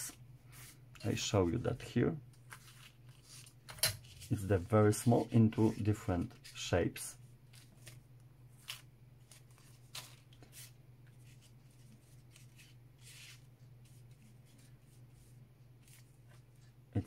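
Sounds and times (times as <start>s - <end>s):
low steady hum: 0.0s - 17.0s
paper and plastic sleeve rustling: 0.1s - 17.0s.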